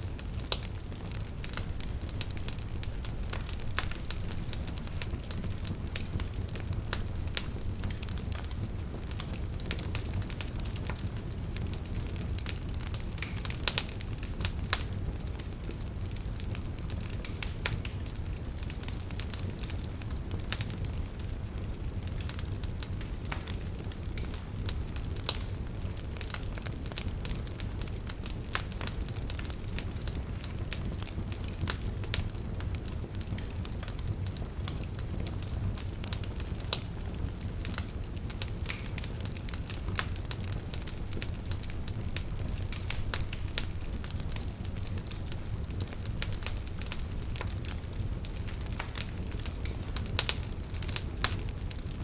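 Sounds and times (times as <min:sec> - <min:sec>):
fire crackling and popping: 0:00.0 - 0:52.0
low rumble of flames: 0:00.0 - 0:52.0.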